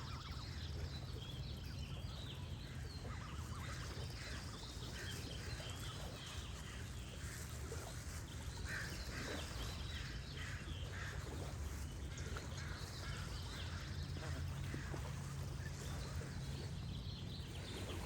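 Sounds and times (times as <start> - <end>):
gentle running water: 0.0 - 18.0.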